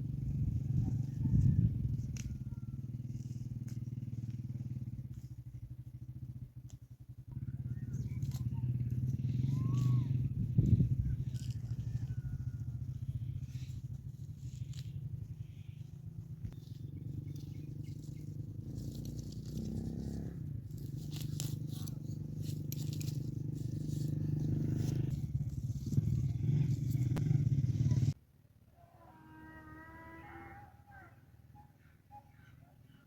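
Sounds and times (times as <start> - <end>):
small engine running: 0.0 - 28.2.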